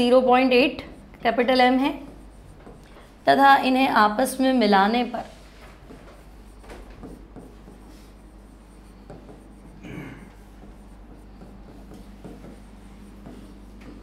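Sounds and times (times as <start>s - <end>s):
pen scratching on touchscreen: 0.0s - 14.0s.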